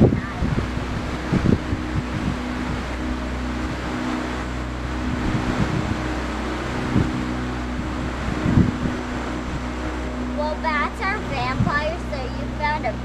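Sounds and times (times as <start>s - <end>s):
wind thumps on microphone: 0.0s - 4.3s, 4.9s - 12.2s
boat motor humming: 0.0s - 13.0s.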